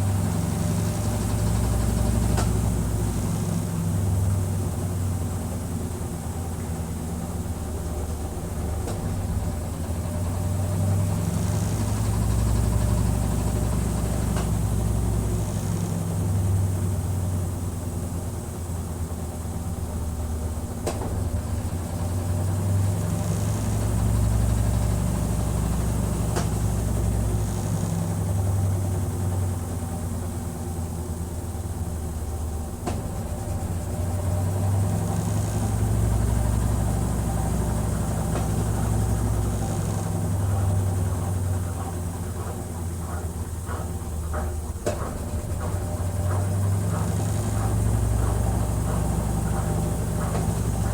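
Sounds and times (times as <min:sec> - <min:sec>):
washing machine motor hum: 0:00.0 - 0:50.9.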